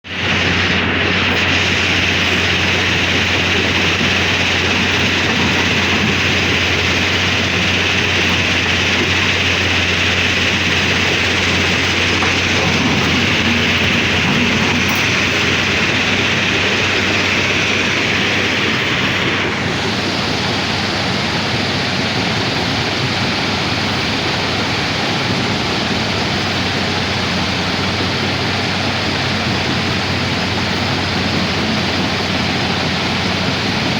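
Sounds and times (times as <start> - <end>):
diesel engine running: 0.0 - 33.9
constant hiss: 0.1 - 33.9.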